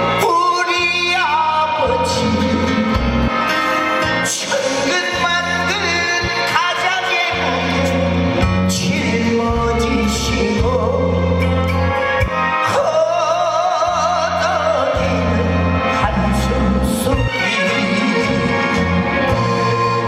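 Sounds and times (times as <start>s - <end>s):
backing band playing: 0.0s - 20.0s
man singing with vibrato: 0.0s - 20.0s.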